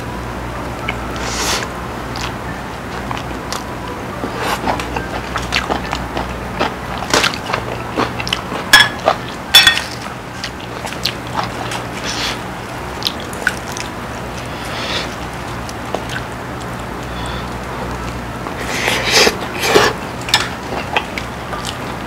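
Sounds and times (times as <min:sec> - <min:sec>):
soft chewing: 0:02.1 - 0:22.0.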